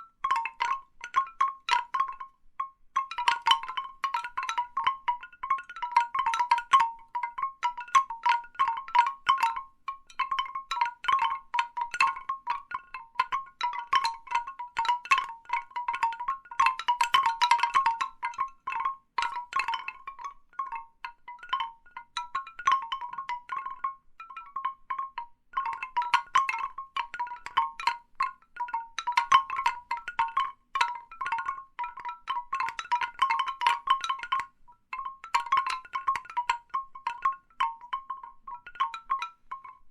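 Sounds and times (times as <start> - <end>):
bamboo wind chimes knocking: 0.0 - 39.9.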